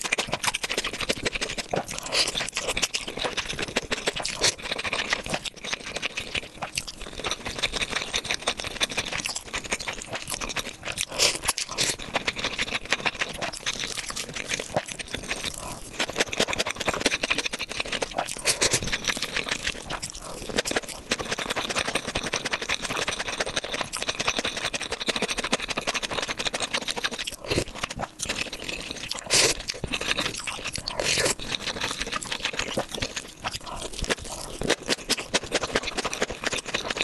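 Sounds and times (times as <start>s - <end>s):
person chewing and crunching food: 0.0s - 37.0s.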